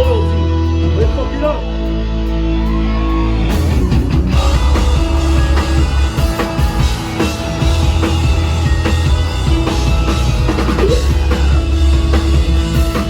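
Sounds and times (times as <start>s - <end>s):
drums: 0.0s - 13.0s
rock band playing live: 0.0s - 13.0s.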